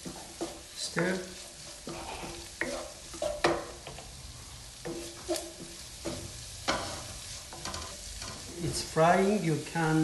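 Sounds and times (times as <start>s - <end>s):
wooden spatula scraping frying pan: 0.0s - 9.4s
food sizzling in oil: 0.0s - 10.0s.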